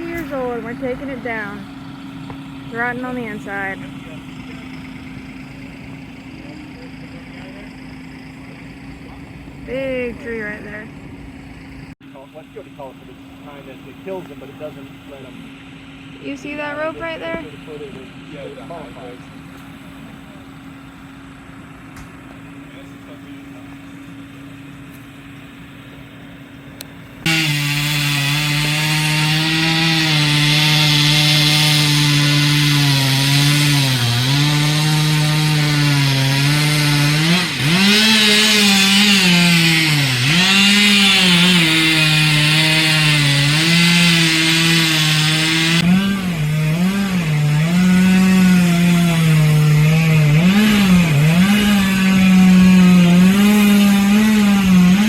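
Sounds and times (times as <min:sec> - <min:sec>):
chainsaw cutting wood: 0:00.0 - 0:10.9, 0:12.8 - 0:22.4, 0:26.8 - 0:55.0.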